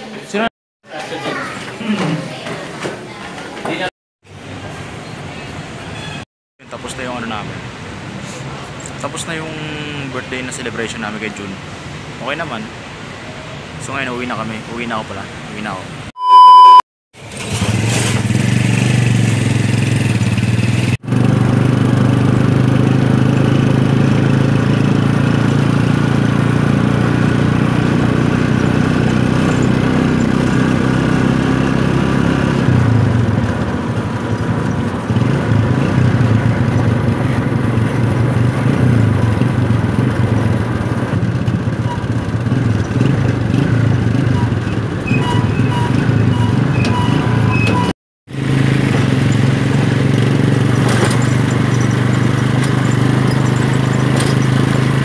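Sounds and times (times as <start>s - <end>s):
vehicle engine and road noise: 4.2s - 55.0s.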